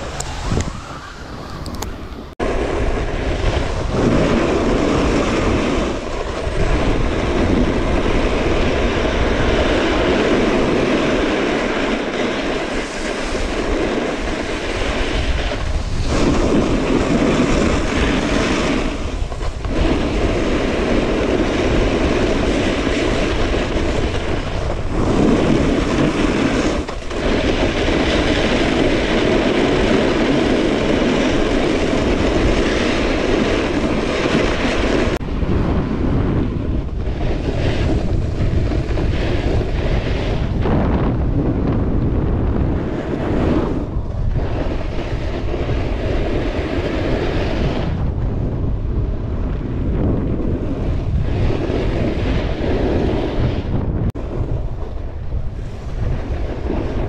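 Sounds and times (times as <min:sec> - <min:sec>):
snowboard scraping over snow: 0:00.0 - 0:57.0
wind on microphone: 0:00.0 - 0:57.0.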